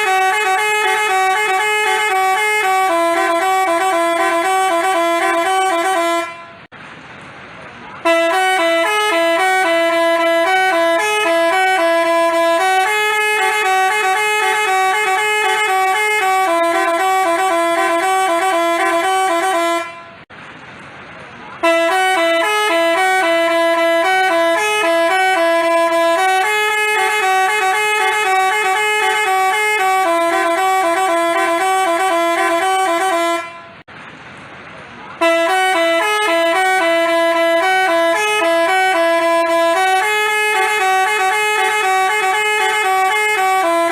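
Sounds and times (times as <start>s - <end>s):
bus horn playing a tune: 0.0s - 6.7s, 8.0s - 20.3s, 21.6s - 33.9s, 35.2s - 43.9s.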